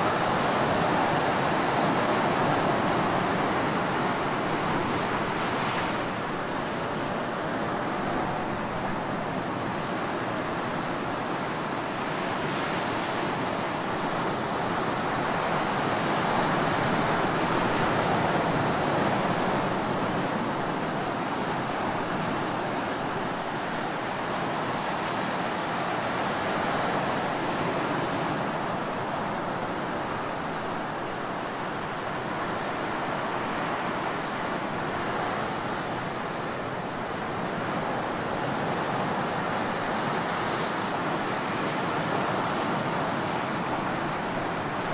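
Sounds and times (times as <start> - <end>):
ocean surf breaking on beach: 0.0 - 44.9.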